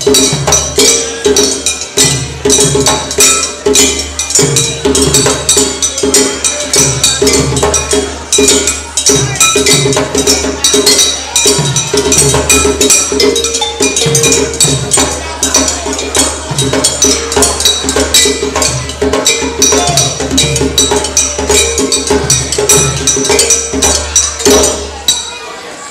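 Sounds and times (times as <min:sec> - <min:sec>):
hand drums playing fast rhythm: 0:00.0 - 0:25.3
ringing struck tones: 0:00.0 - 0:25.6.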